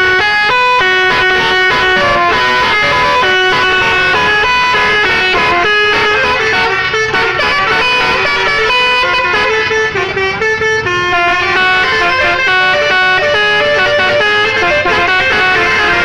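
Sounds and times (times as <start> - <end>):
bus air horn melody: 0.0 - 16.0.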